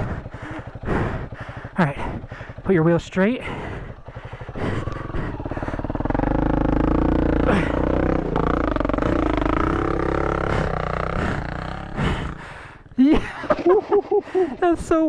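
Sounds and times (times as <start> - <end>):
motorcycle engine revving under load: 0.0 - 14.7.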